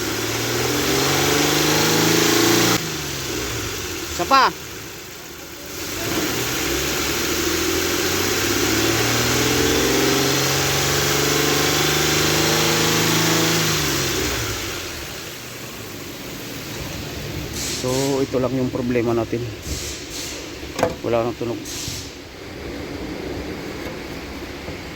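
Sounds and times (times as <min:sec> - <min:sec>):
engine revving and idling: 0:00.0 - 0:24.9.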